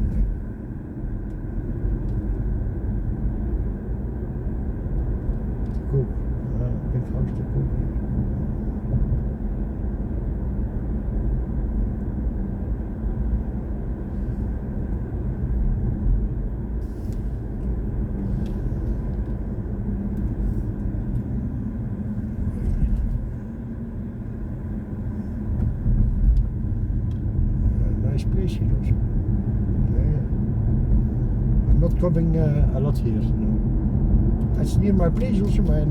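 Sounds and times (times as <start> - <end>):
road and tyre rumble: 0.0 - 35.9.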